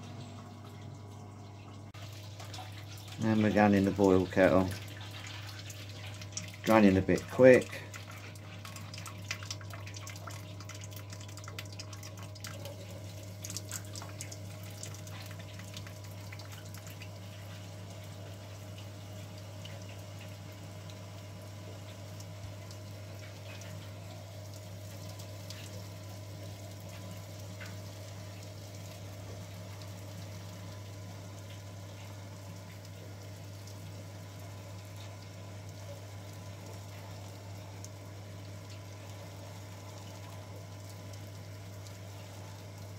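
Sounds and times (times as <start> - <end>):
water splashing trickle: 0.0 - 42.9.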